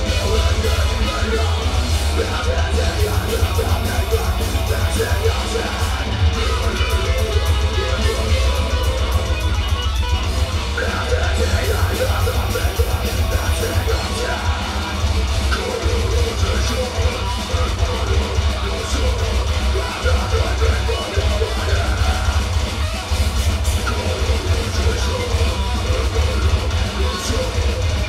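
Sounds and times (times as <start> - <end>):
distorted electric guitar riffing: 0.0 - 28.0
live heavy metal band: 0.0 - 28.0.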